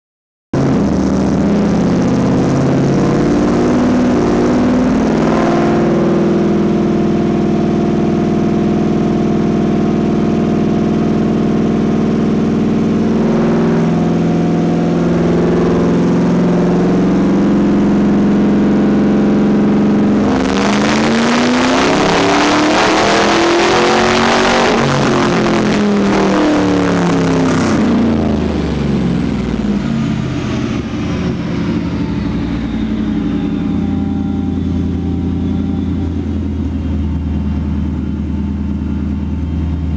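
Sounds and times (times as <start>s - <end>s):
supercharged engine on dyno: 0.6s - 39.9s.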